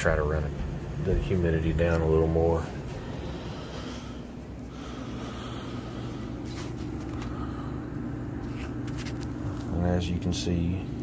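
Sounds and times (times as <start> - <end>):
air handler blower hum: 0.0 - 11.0.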